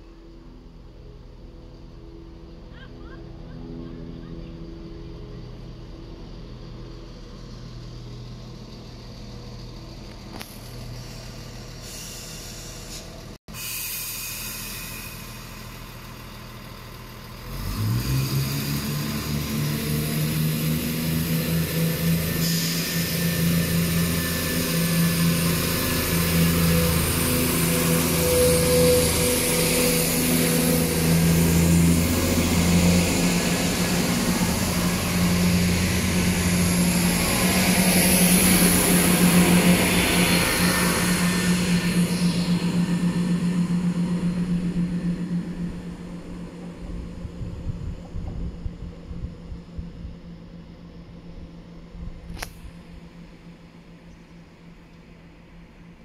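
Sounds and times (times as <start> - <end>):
train diesel engines: 0.0 - 56.0.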